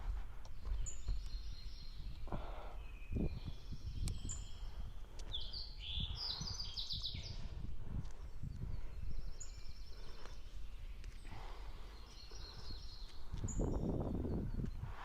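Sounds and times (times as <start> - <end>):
birds chirping and calling: 0.3 - 15.0.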